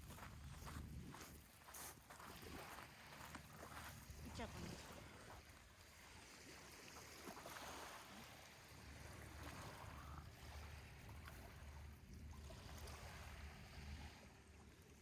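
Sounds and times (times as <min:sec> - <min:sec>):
water lapping at shore: 0:00.0 - 0:15.0.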